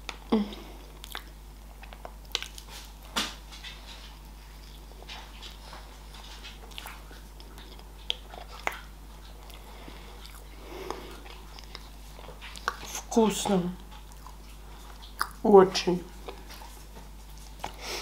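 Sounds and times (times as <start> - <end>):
chewing and wet mouth sounds: 0.0 - 18.0.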